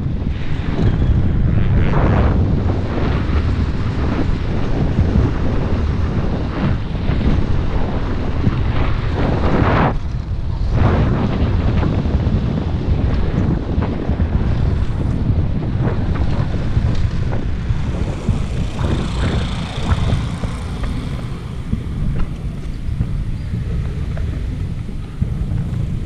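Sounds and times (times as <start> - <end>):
wind buffeting microphone: 0.0 - 26.0
motorbike engine at low revs: 1.2 - 26.0.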